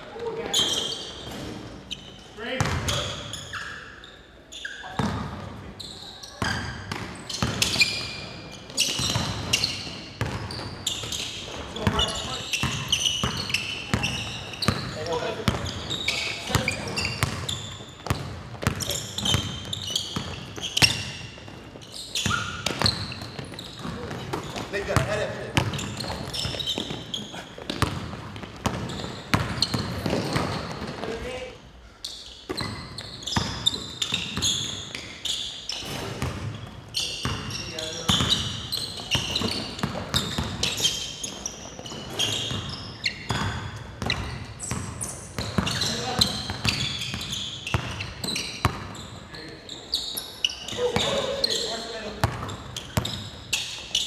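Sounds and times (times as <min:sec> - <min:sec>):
sneaker squeaks: 0:00.0 - 0:54.0.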